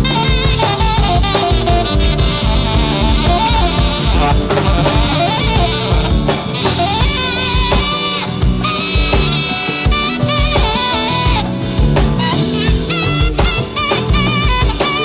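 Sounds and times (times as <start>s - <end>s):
bass guitar: 0.0s - 15.0s
drum kit beat: 0.0s - 15.0s
melodic lead line: 0.0s - 15.0s.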